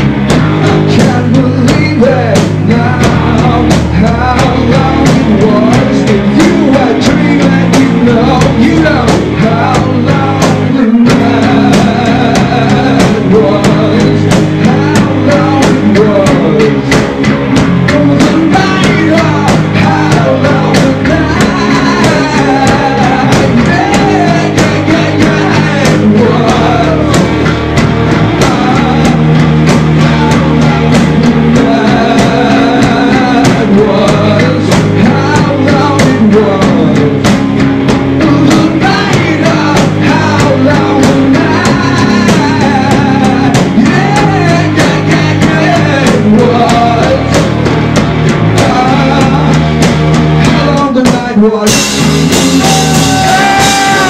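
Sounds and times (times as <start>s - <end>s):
drum kit: 0.0s - 54.0s
electric guitar: 0.0s - 54.0s
person singing: 0.6s - 37.4s, 38.0s - 54.0s.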